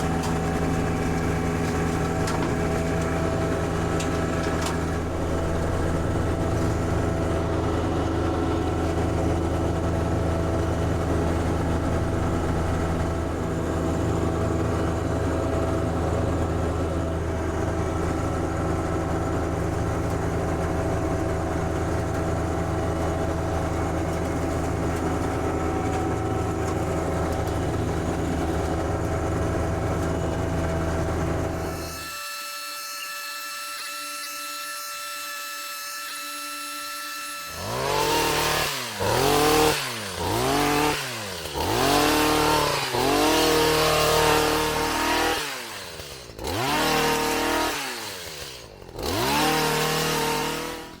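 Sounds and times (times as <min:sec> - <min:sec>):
tractor diesel engine running: 0:00.0 - 0:31.8, 0:37.6 - 0:51.0.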